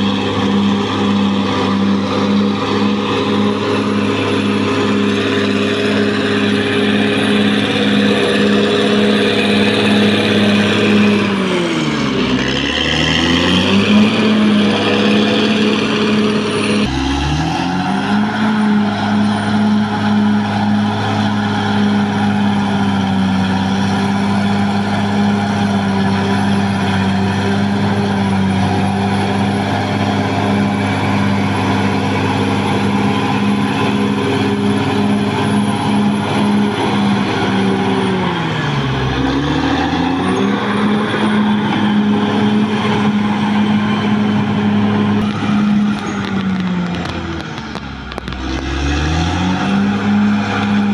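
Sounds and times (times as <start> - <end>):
blade pushing wet soil: 0.0 - 50.9
bulldozer diesel engine running hard: 0.0 - 50.9.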